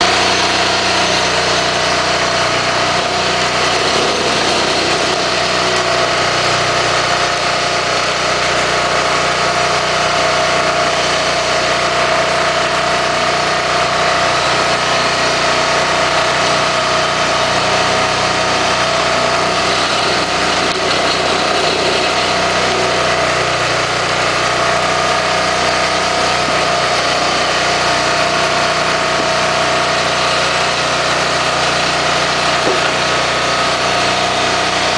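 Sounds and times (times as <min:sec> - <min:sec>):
diesel engine running steadily: 0:00.0 - 0:34.9.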